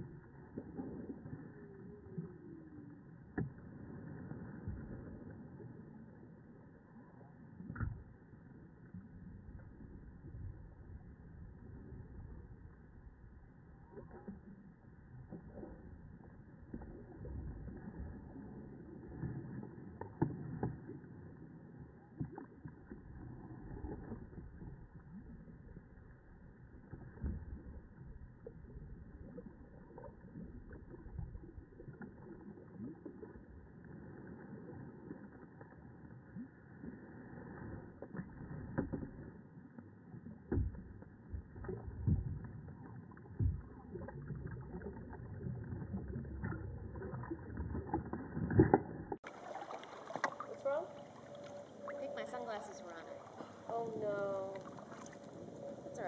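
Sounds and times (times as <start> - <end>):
paddled water wash: 0.0 - 56.0.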